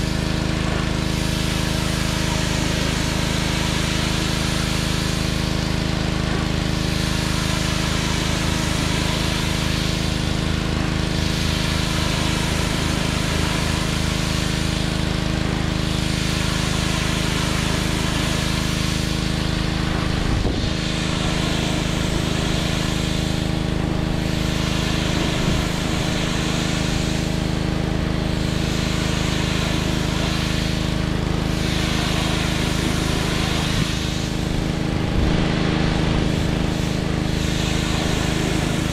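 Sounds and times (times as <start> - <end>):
pressure washer running: 0.0 - 38.9
water jet hissing on wood: 0.0 - 38.9.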